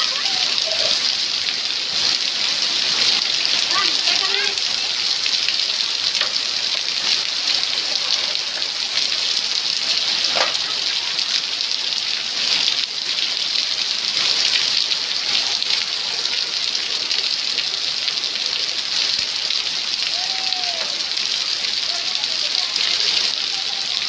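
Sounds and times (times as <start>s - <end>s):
rain pattering on hard surfaces: 0.0s - 24.0s.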